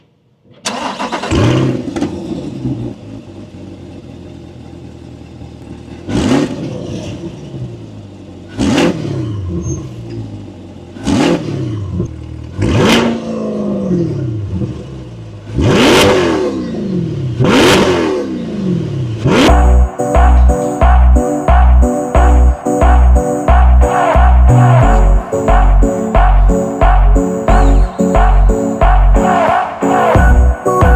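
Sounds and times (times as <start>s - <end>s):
car engine starting and idling: 0.0s - 30.9s
car engine revving: 0.7s - 30.9s.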